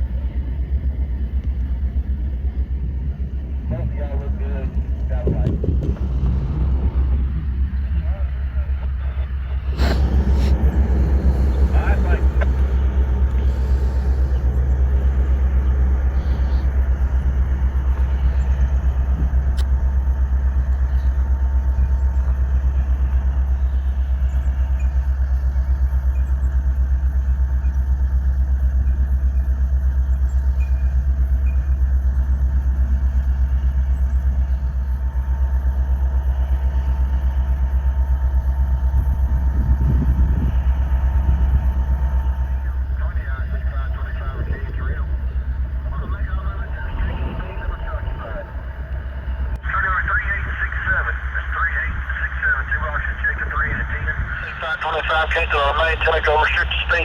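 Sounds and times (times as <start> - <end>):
train wheels rumbling on rail: 0.0 - 49.6.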